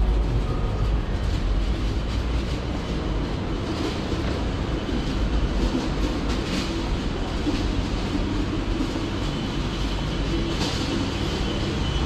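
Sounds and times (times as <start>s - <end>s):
city street background noise: 0.0s - 12.0s.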